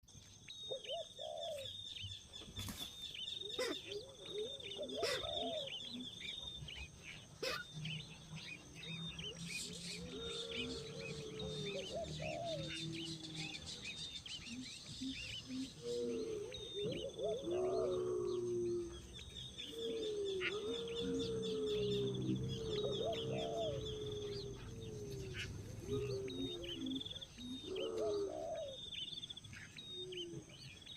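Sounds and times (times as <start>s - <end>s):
lower longer bird calls: 3.2s - 30.9s.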